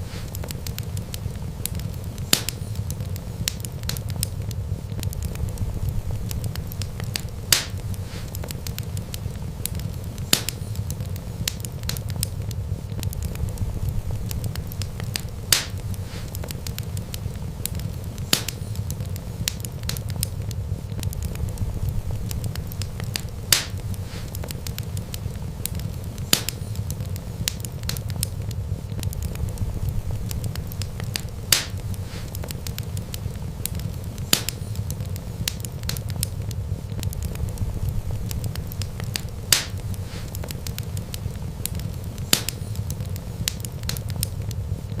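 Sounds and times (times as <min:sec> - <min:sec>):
sharp fire pops: 0:00.0 - 0:45.0
wood fire crackling: 0:00.0 - 0:45.0.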